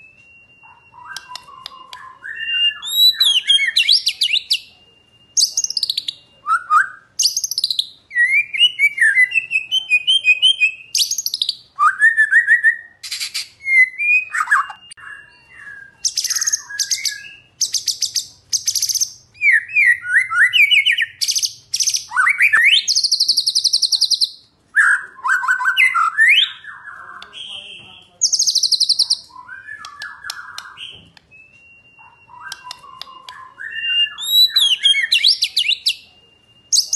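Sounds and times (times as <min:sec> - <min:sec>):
bird song whistled phrases: 0:00.0 - 0:36.9.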